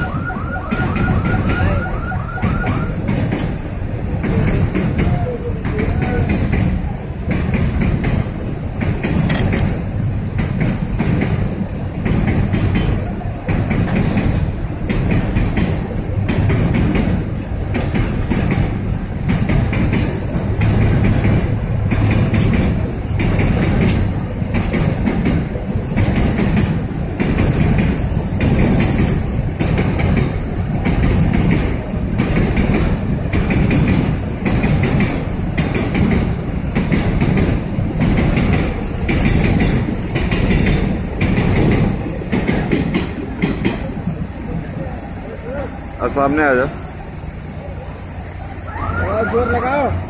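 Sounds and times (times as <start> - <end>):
heavy diesel engines rumbling: 0.0 - 50.0.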